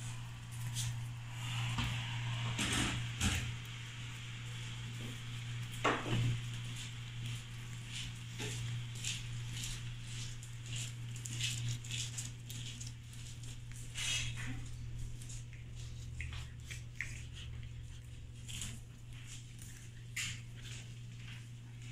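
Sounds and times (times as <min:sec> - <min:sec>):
low hum: 0:00.0 - 0:21.8
puppy claws on tile floor: 0:00.0 - 0:21.9.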